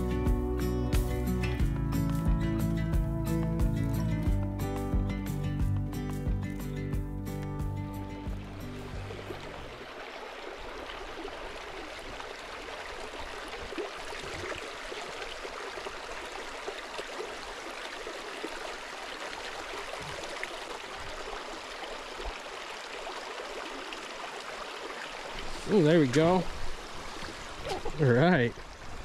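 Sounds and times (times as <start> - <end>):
stream running: 0.0 - 29.0.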